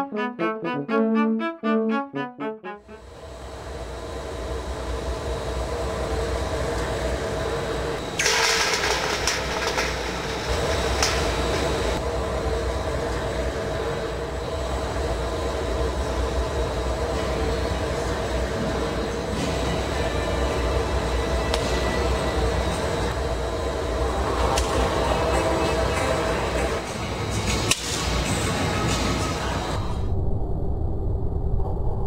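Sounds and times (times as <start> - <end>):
constant hum: 0.0 - 32.0
furnace roar: 2.8 - 30.3.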